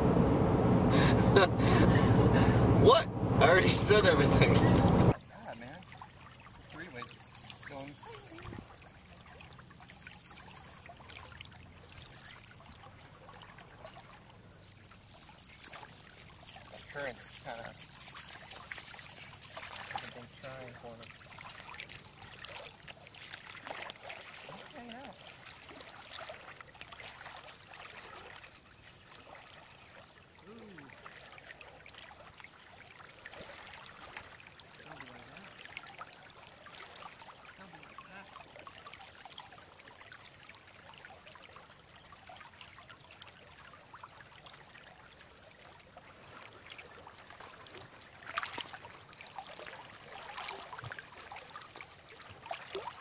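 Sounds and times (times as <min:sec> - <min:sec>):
river water babbling: 0:00.0 - 0:53.0.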